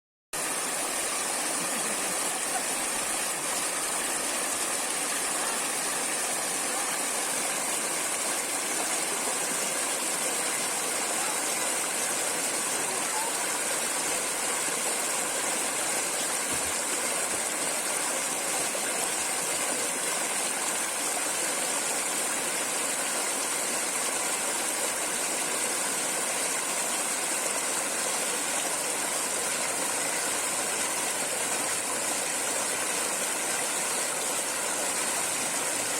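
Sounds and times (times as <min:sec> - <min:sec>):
water flowing: 0:00.4 - 0:35.9.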